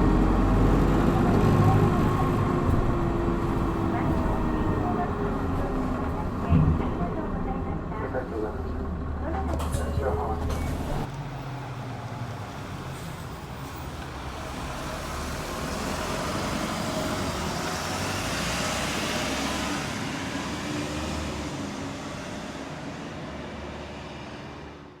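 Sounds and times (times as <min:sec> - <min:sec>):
bus diesel engine drone: 0:00.0 - 0:25.0
road and tyre noise: 0:00.0 - 0:25.0.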